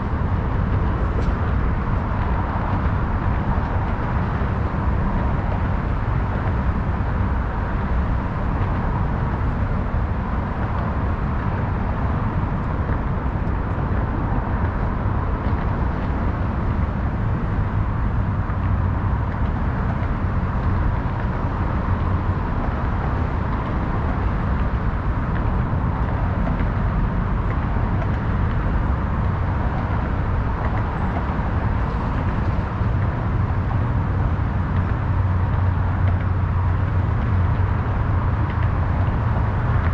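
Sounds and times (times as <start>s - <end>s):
low rumble of road traffic: 0.0s - 39.9s.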